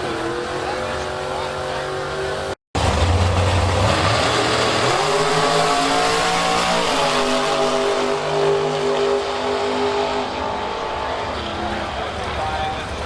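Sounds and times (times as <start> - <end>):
drag racing car engine: 0.0 - 13.0.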